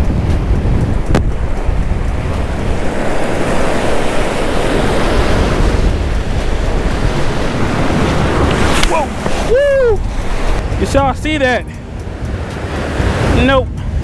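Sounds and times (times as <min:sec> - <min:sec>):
sea surf breaking on stone: 0:00.0 - 0:14.0
wind buffeting the microphone: 0:00.0 - 0:14.0.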